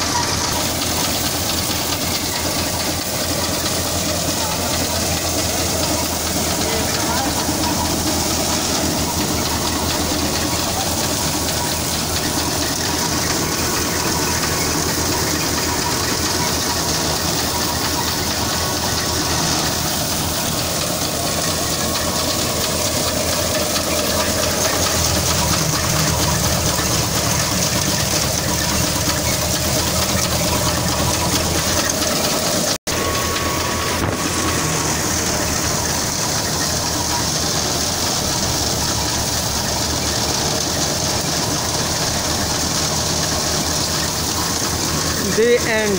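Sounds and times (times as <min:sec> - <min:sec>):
threshing drum and fan rushing: 0:00.0 - 0:45.9
tractor engine drone: 0:00.0 - 0:45.9.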